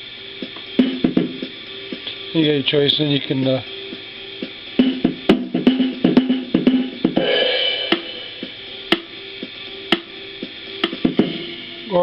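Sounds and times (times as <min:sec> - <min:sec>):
drum machine jazz rhythm: 0:00.0 - 0:12.0.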